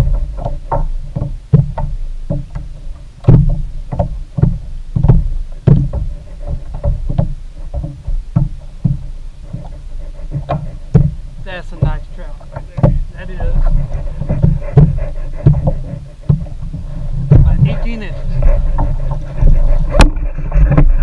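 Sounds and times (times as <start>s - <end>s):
waves slapping kayak hull: 0.0s - 21.0s.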